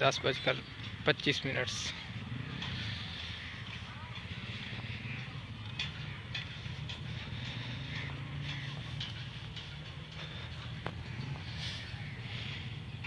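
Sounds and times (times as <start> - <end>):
distant locomotive engine rumble: 0.0 - 13.0.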